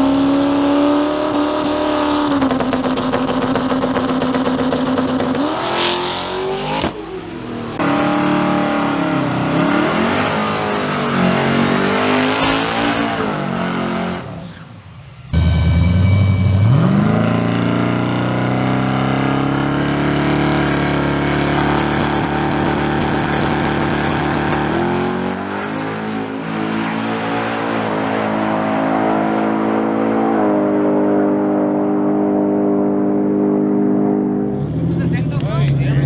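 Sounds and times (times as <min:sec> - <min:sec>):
truck engine at full throttle: 0:00.0 - 0:36.0.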